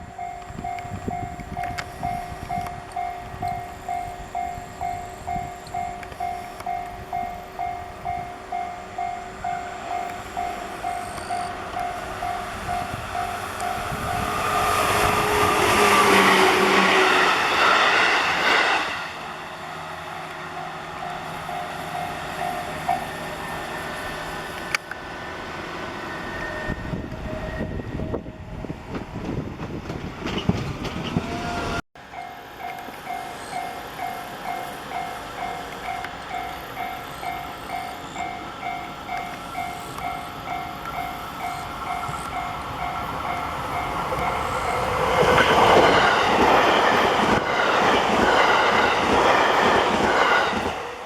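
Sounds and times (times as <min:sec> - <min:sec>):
rail noise with clicks: 0:00.0 - 0:51.0
train rushing past: 0:00.0 - 0:51.0.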